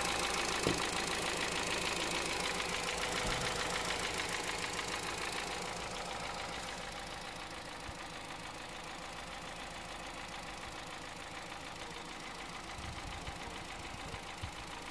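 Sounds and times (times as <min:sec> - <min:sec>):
car engine knocking: 0:00.0 - 0:14.9.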